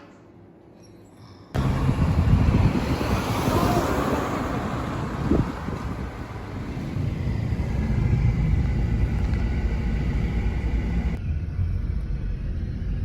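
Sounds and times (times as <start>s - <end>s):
road and engine rumble: 1.6s - 13.0s.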